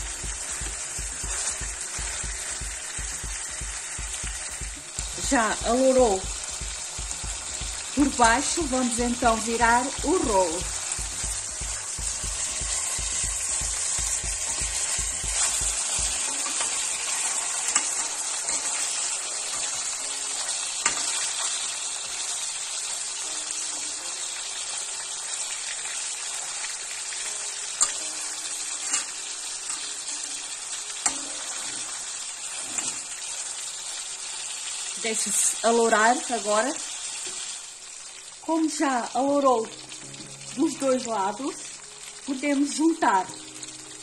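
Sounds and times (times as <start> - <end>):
meat sizzling in oil: 0.0 - 44.0.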